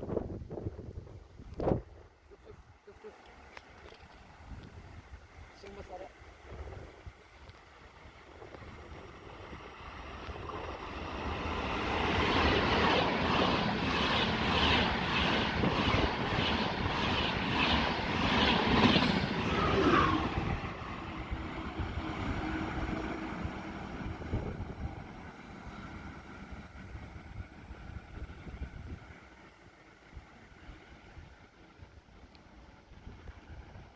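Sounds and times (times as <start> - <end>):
train passing with rail clicks: 3.0 - 33.9.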